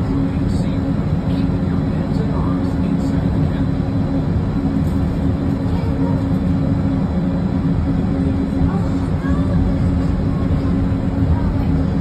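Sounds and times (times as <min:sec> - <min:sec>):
train car rumble and hum: 0:00.0 - 0:12.0.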